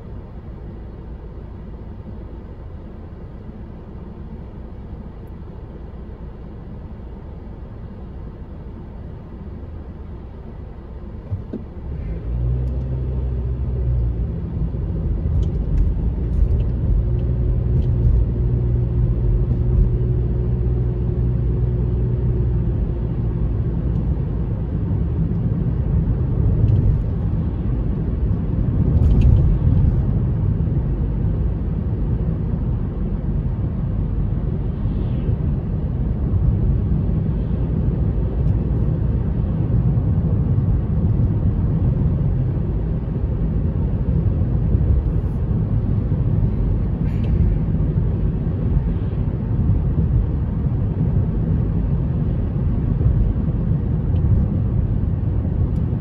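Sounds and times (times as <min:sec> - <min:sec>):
car cabin road noise: 0:00.0 - 0:56.0.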